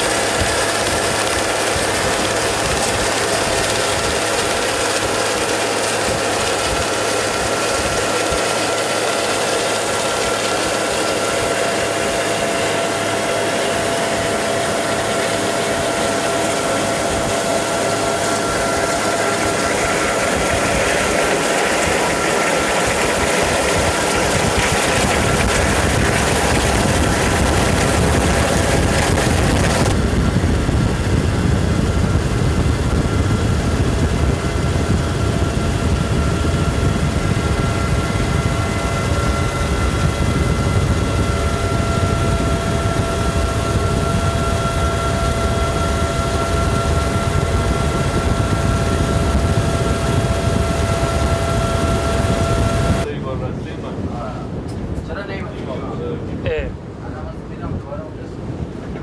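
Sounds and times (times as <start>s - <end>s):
helicopter turbine whine: 0.0s - 58.7s
helicopter rotor rumble: 0.0s - 59.0s.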